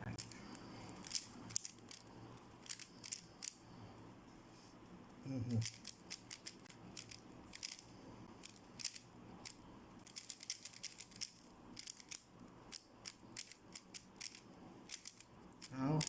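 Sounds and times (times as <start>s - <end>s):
puzzle cube clicking as turned: 0.9s - 3.6s, 5.6s - 16.0s.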